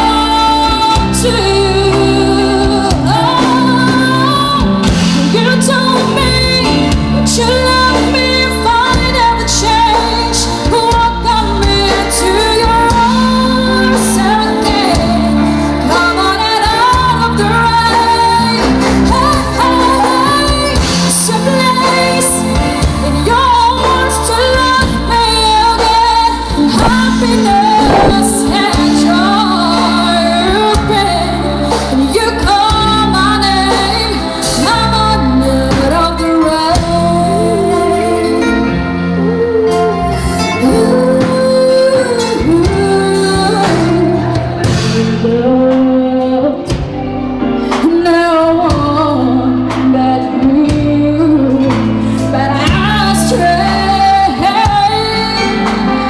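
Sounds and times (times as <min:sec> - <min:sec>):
pop ballad with female singer: 0:00.0 - 0:56.0.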